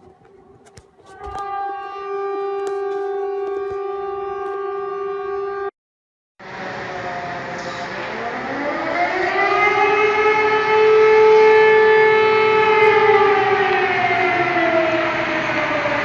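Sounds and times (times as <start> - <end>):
civil defense siren wailing: 0.0 - 5.7, 6.4 - 16.0.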